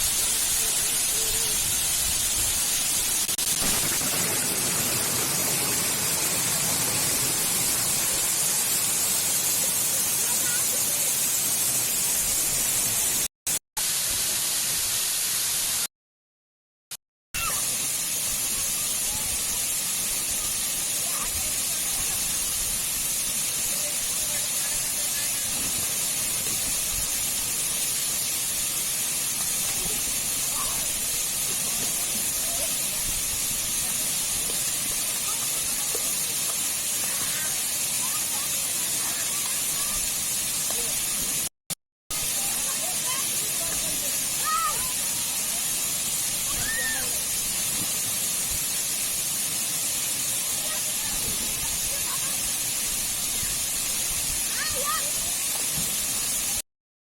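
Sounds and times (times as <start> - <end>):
water rushing hiss: 0.0 - 15.9, 17.4 - 41.5, 42.1 - 56.6.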